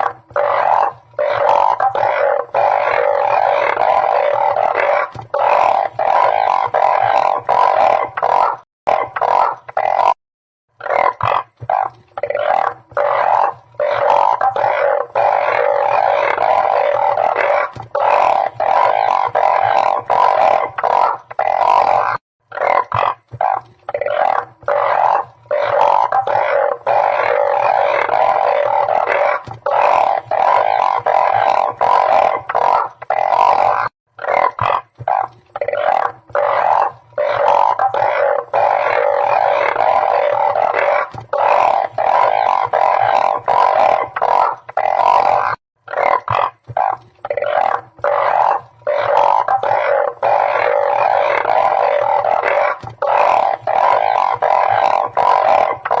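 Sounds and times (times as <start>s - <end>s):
chorus of frogs croaking: 0.0s - 56.0s.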